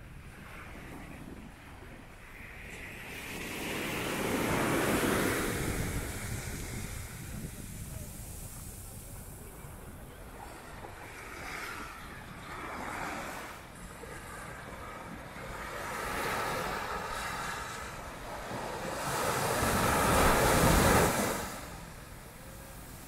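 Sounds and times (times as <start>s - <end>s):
sea surf breaking: 2.4s - 23.0s.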